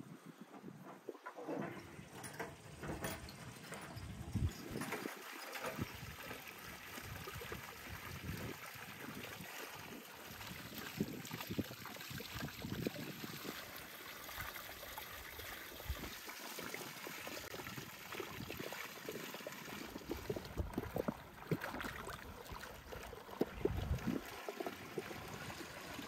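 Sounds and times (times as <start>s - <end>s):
pumpkins splashing and knocking: 1.2s - 14.8s, 15.9s - 26.0s
water pouring into stone basin: 4.4s - 26.0s.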